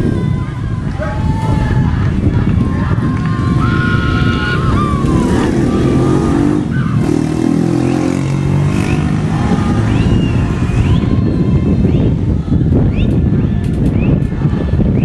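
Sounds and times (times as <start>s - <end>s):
distant voices: 0.0s - 15.0s
wind rumble on microphone: 0.0s - 15.0s.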